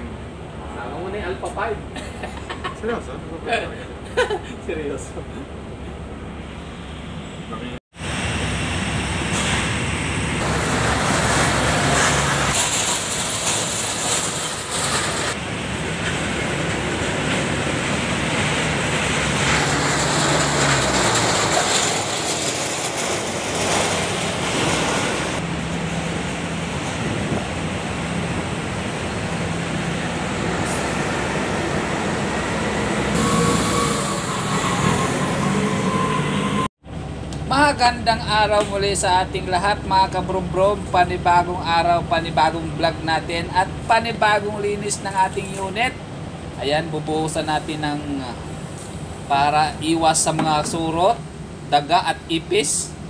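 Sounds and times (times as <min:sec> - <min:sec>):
vehicle engines running: 0:00.0 - 0:52.3
vehicles passing: 0:00.0 - 0:53.0.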